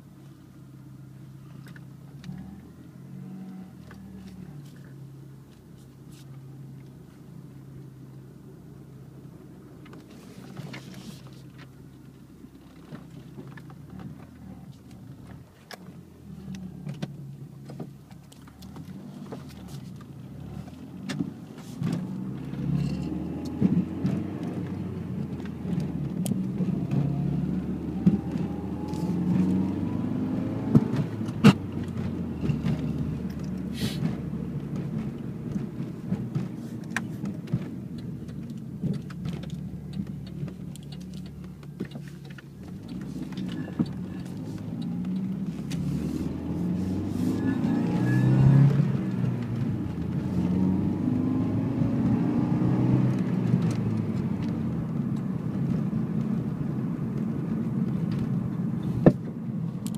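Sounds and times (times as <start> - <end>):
car engine from inside cabin: 0.0 - 59.9.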